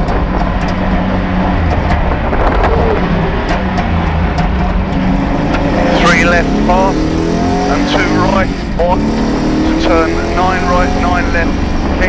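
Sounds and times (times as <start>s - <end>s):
rally car engine running hard: 0.0s - 12.0s
road noise: 0.0s - 12.0s.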